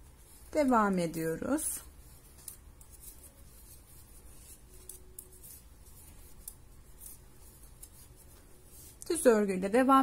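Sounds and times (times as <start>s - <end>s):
yarn rubbing through fingers: 0.0s - 9.9s.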